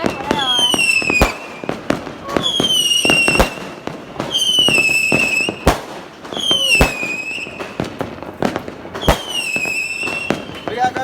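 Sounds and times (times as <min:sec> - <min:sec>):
firework whistles: 0:00.0 - 0:07.9, 0:08.9 - 0:10.9
firework bangs: 0:00.0 - 0:11.0
firework pops: 0:00.0 - 0:11.0.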